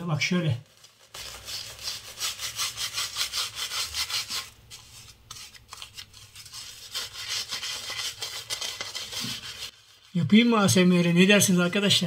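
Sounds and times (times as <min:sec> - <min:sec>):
shaving brush rubbing stubble: 0:01.0 - 0:10.6.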